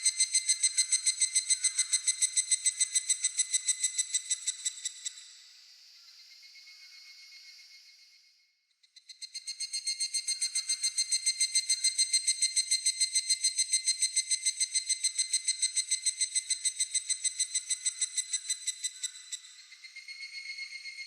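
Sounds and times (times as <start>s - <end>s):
cicada calling: 0.0s - 5.2s, 9.2s - 21.0s.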